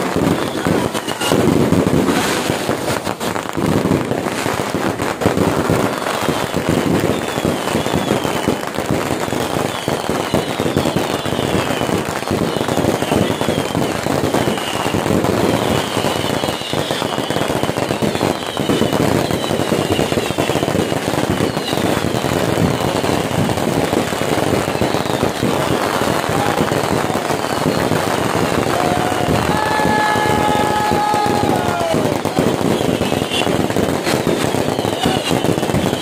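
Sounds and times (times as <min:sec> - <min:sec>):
fireworks crackling and popping: 0:00.0 - 0:36.0.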